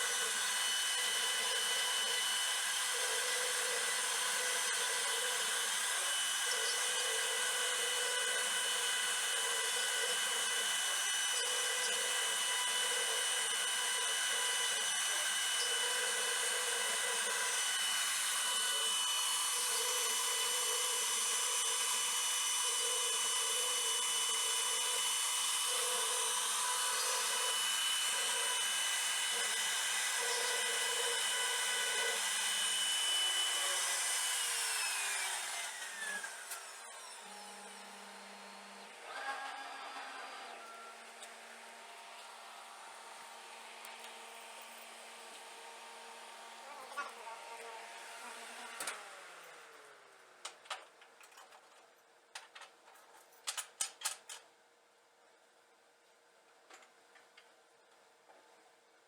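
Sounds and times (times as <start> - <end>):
power tool motor whining: 0.0 - 50.6.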